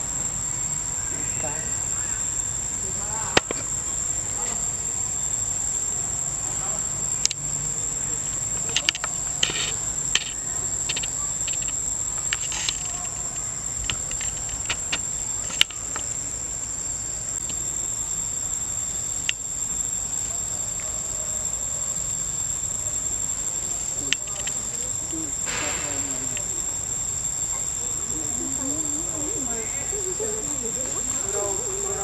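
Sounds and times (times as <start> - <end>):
forest insects droning: 0.0 - 32.0.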